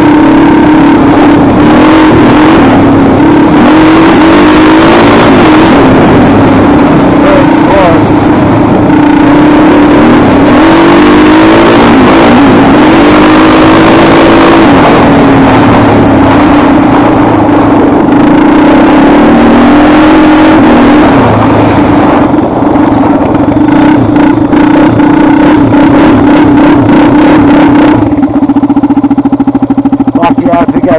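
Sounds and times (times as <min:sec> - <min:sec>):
quad engine revving: 0:00.0 - 0:30.9.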